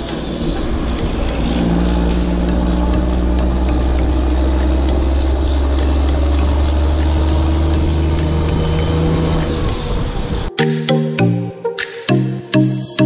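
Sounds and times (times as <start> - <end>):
engine droning: 0.0 - 10.5.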